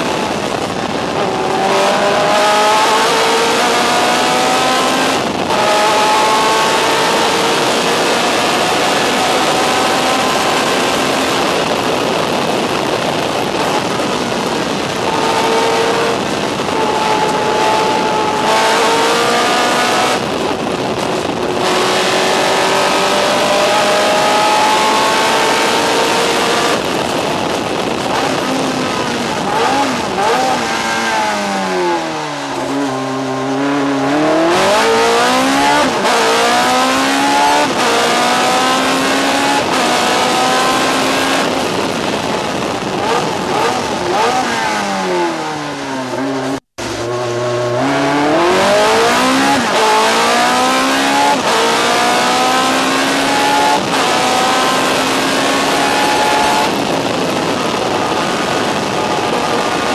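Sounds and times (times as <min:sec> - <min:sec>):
racing engine revving: 0:00.0 - 0:59.9.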